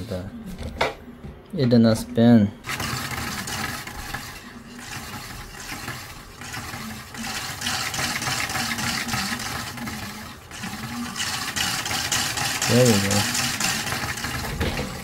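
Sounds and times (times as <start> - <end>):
small electric motor straining: 2.6 - 15.0.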